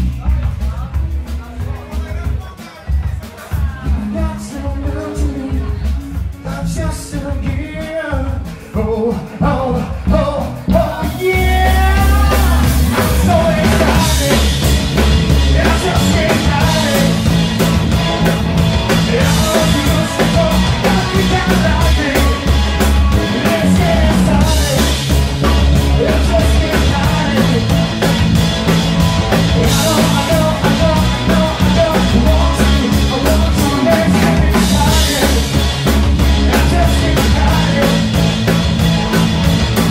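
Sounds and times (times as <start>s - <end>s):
man singing: 0.0s - 39.9s
rock band playing: 0.0s - 39.9s.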